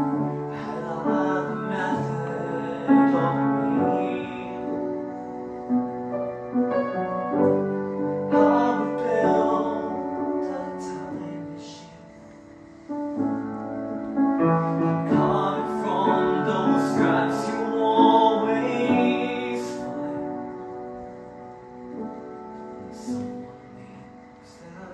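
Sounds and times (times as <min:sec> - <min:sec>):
grand piano chords: 0:00.0 - 0:24.9.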